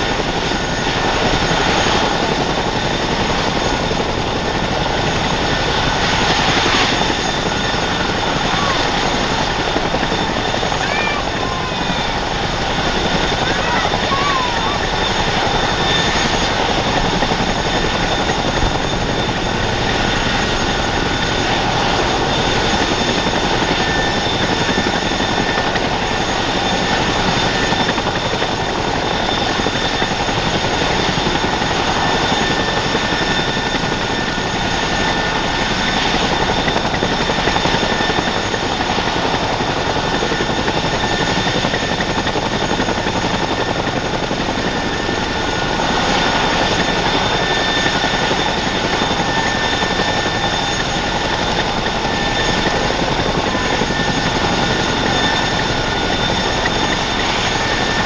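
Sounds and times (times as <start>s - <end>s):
helicopter engine and rotor noise: 0.0s - 58.0s
high turbine whine: 0.0s - 58.0s.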